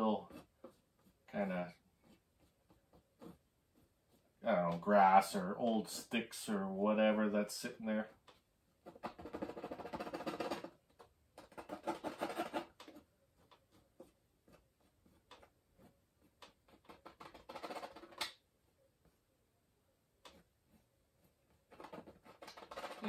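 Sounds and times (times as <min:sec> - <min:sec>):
palette knife scraping canvas: 0:00.0 - 0:06.3, 0:08.0 - 0:18.4, 0:20.2 - 0:23.0.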